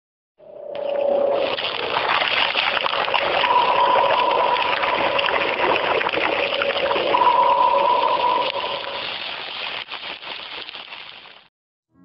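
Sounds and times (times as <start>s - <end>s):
electric crackling: 1.2s - 11.3s.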